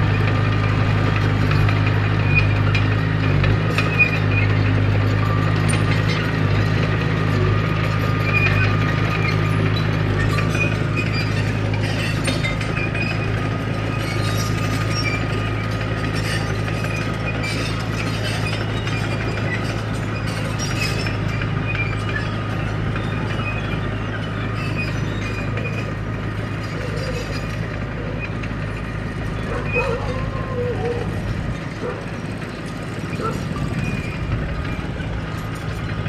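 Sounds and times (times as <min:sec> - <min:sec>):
bulldozer diesel engine running: 0:00.0 - 0:36.0
metallic clanks of steel tracks: 0:00.0 - 0:36.0.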